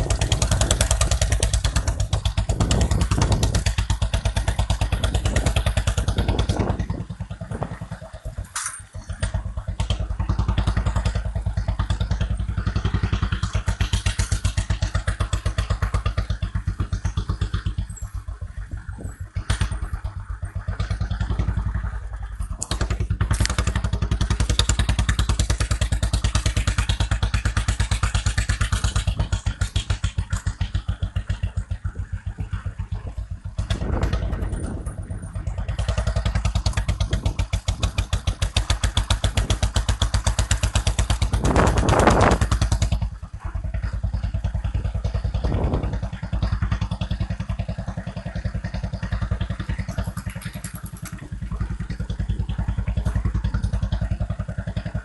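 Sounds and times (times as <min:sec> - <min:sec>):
motorcycle engine thudding: 0:00.0 - 0:55.0.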